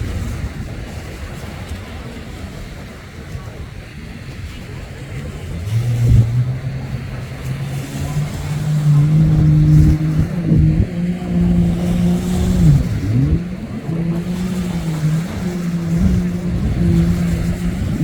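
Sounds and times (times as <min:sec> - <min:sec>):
jet ski engine high revs: 0:00.0 - 0:18.0.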